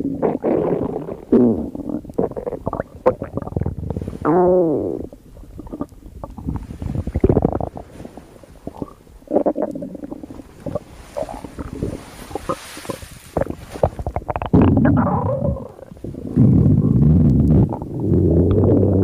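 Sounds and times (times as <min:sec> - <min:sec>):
stomach growling and gurgling: 0:00.0 - 0:19.0.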